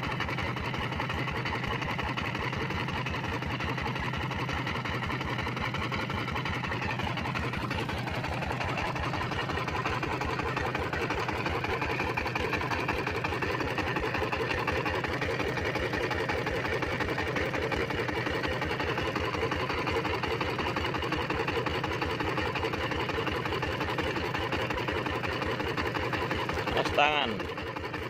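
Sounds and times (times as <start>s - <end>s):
diesel pump engine running: 0.0s - 28.0s.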